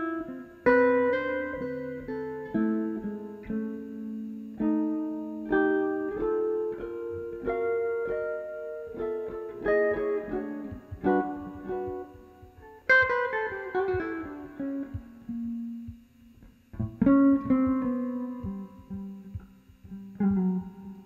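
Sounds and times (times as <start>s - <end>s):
electric guitar playing chords: 0.0s - 21.0s.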